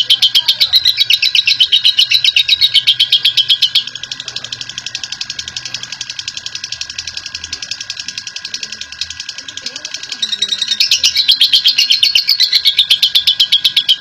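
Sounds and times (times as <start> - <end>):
lovebird chatter trill: 0.0 - 14.0.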